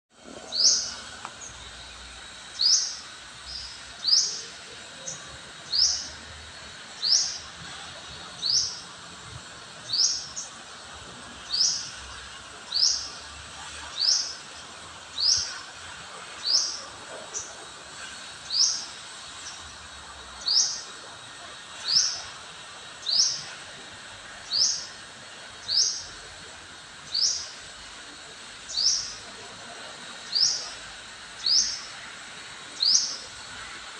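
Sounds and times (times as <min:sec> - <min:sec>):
faint steady background hiss: 0:00.2 - 0:33.9.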